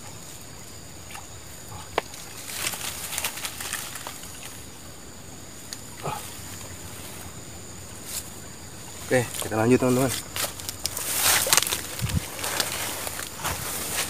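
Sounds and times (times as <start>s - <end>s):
rustles: 0.0s - 14.0s.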